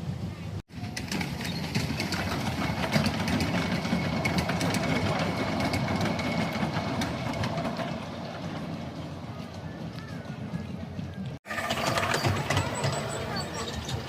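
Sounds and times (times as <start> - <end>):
steam locomotive rumble: 0.0 - 14.0.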